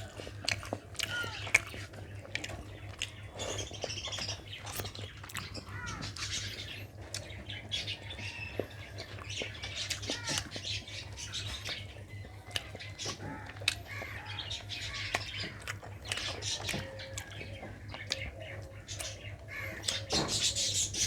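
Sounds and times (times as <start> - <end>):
person chewing food: 0.0 - 20.1.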